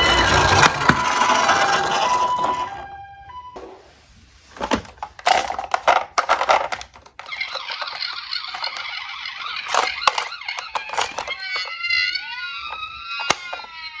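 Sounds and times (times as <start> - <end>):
toy cars clattering: 0.0 - 3.0, 4.5 - 14.0.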